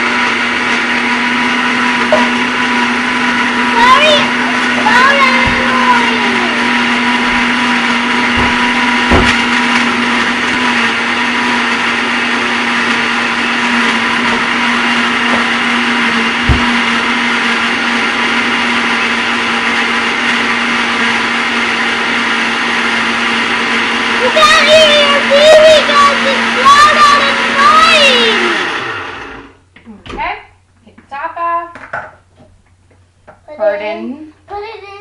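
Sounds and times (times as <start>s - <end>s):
blender motor hum: 0.0s - 29.6s
blender whirring ice: 0.0s - 29.6s.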